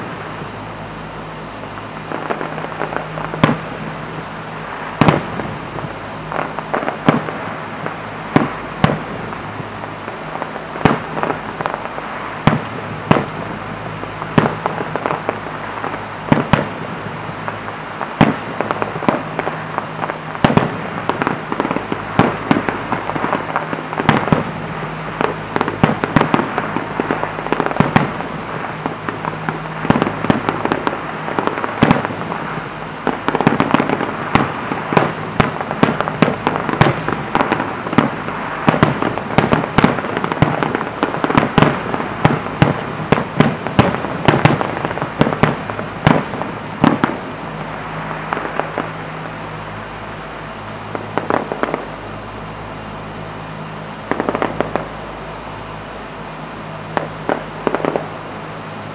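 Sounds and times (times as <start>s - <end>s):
firework bangs: 0.0s - 58.9s
firework crackling: 0.0s - 58.9s.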